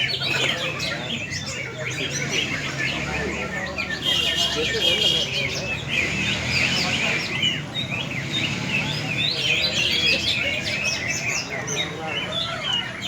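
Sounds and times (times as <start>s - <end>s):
birds chirping and whistling: 0.0s - 13.0s
low crowd murmur: 0.0s - 13.0s.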